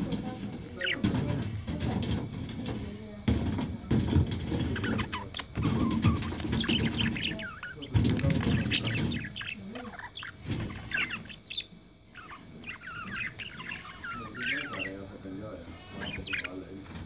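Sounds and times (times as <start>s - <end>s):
budgerigars chattering: 0.0s - 2.8s, 3.5s - 17.0s.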